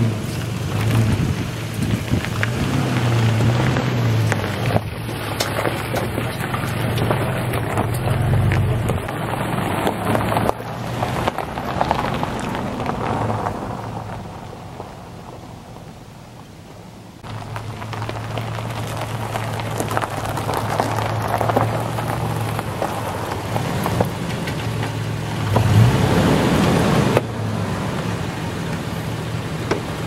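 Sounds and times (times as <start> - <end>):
tyres crunching over loose rock: 0.0 - 15.9, 17.2 - 27.3
truck engine pulling in low gear: 0.0 - 16.4, 17.2 - 30.0.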